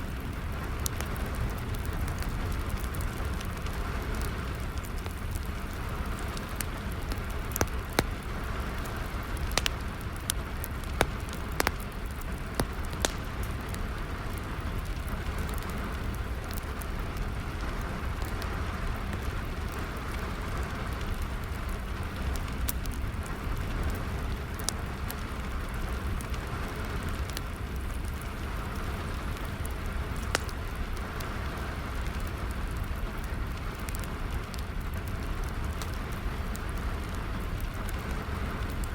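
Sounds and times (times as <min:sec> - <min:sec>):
steady rain falling: 0:00.0 - 0:38.9
wood fire crackling: 0:00.0 - 0:38.9.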